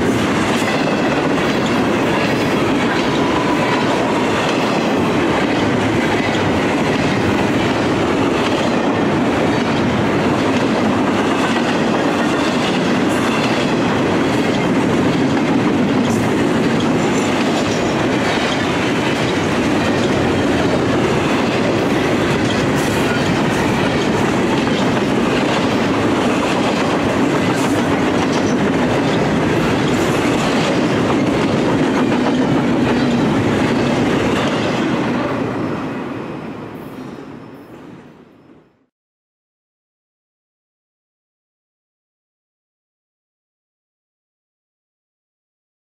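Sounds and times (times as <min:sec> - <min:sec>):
freight train rumbling past: 0:00.0 - 0:38.7.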